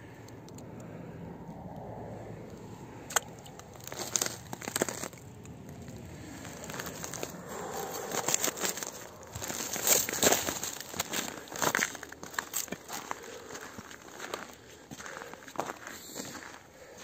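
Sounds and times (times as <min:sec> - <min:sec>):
footsteps crunching snow and ice: 0:02.9 - 0:17.0.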